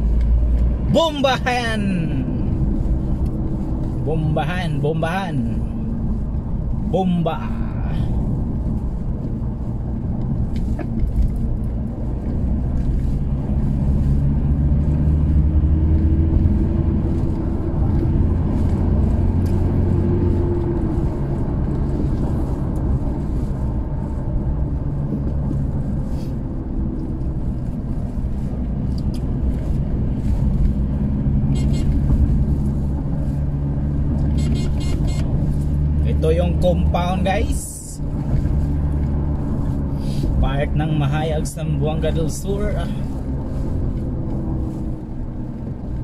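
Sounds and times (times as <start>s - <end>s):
engine and road noise drone: 0.0s - 46.0s.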